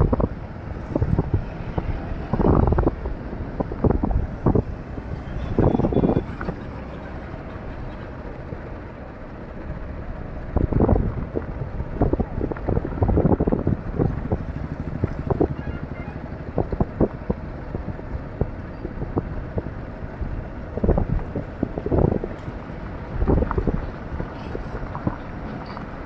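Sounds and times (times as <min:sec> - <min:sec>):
highway traffic rumble: 0:00.0 - 0:26.0
wind buffeting microphone: 0:00.0 - 0:26.0.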